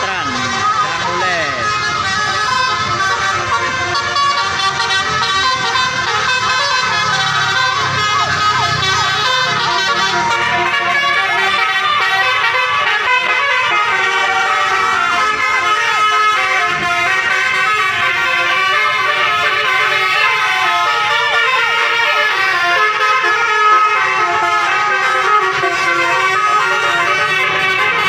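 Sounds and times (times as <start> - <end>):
bus horn playing a tune: 0.0 - 28.0.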